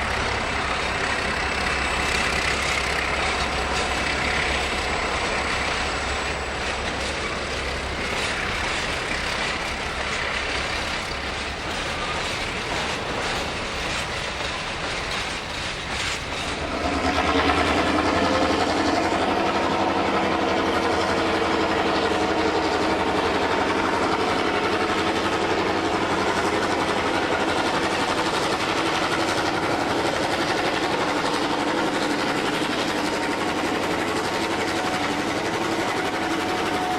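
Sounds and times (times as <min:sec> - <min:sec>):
locomotive engine droning: 0:00.0 - 0:36.9.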